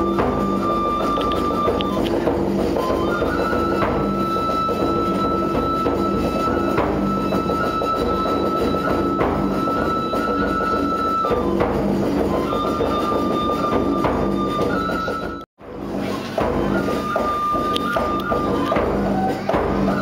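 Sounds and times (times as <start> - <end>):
reedy flute long notes: 0.0 - 20.0
steady percussion: 0.0 - 20.0.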